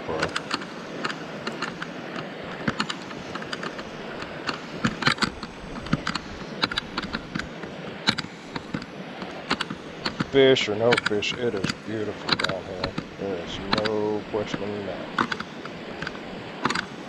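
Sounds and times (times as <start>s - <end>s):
steady background rush: 0.0s - 17.0s
gear clicking on camera strap: 0.2s - 17.0s.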